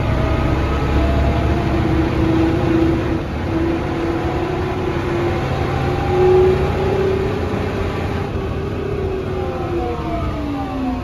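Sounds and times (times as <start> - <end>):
bus drivetrain rumble: 0.0 - 11.0.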